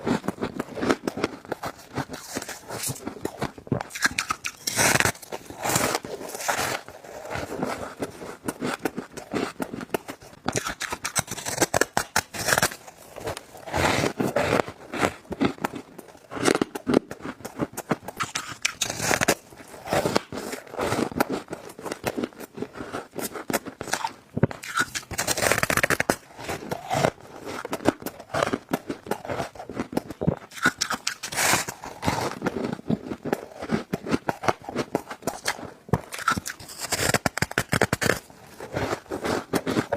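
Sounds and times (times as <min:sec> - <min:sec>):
biting crunchy ice: 0:00.0 - 0:39.9.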